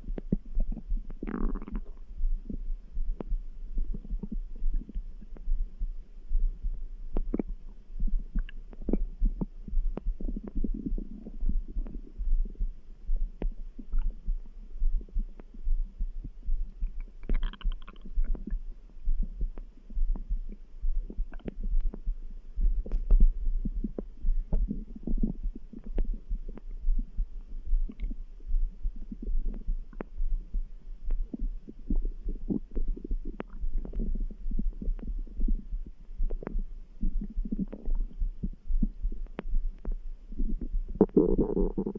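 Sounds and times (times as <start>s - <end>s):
stomach gurgling: 0.0s - 5.5s, 7.1s - 15.5s, 16.7s - 22.0s, 22.6s - 30.5s, 31.1s - 41.9s
low thudding heartbeat: 0.0s - 41.9s.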